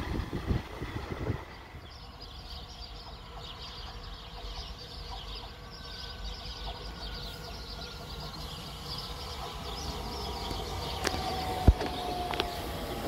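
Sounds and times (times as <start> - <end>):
birds chirping: 0.0 - 13.0
distant train rumble: 0.0 - 13.0.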